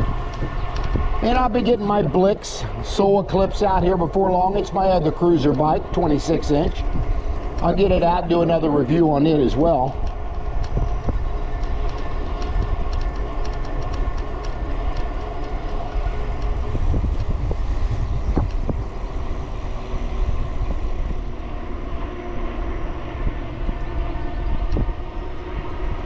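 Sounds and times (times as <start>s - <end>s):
motor and tyre hum: 0.0s - 26.0s
wind on microphone: 0.0s - 26.0s.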